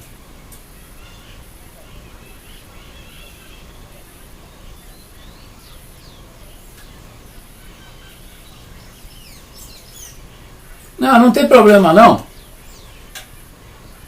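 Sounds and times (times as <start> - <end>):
birds chirping: 0.0 - 14.0
steady low background noise: 0.0 - 14.0.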